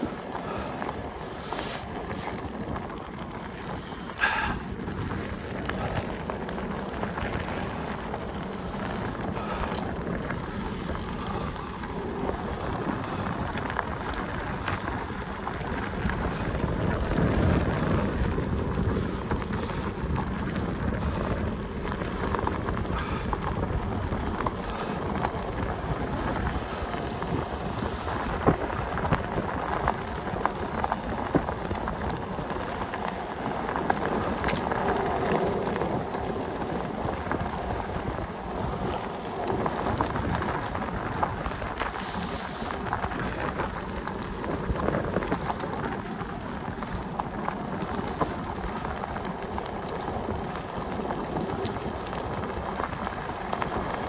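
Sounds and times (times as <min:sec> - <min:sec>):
bicycle tyres rolling on rough surface: 0:00.0 - 0:54.0
wind buffeting microphone: 0:00.0 - 0:54.0.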